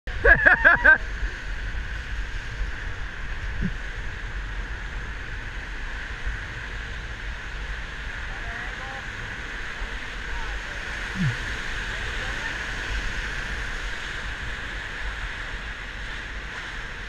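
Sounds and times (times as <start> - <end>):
whitewater rushing: 0.1 - 17.0
wind rumbling on microphone: 0.1 - 17.0.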